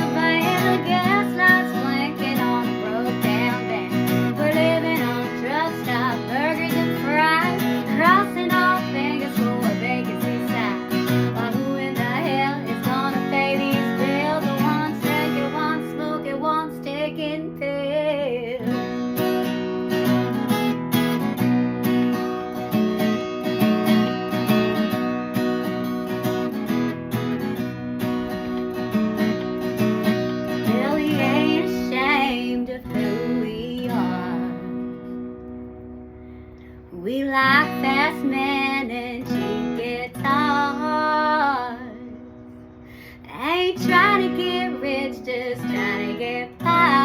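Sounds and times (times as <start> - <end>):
acoustic guitar strumming: 0.0 - 47.0
bending lead guitar melody: 0.0 - 47.0.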